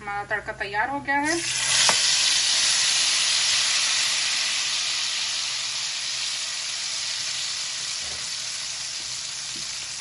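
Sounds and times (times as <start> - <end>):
hot oil sizzling: 1.2 - 10.0.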